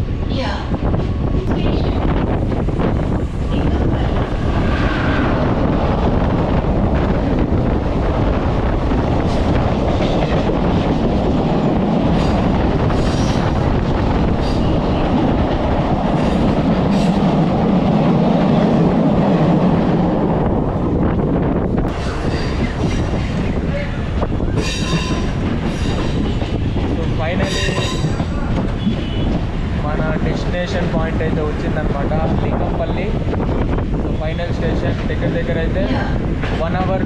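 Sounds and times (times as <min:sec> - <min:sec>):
electric train rumbling: 0:00.0 - 0:37.0.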